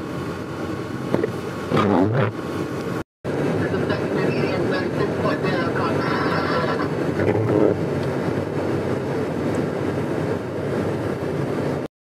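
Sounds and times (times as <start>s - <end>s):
blowing wind: 0.0s - 11.9s
car road and engine noise: 0.0s - 11.9s.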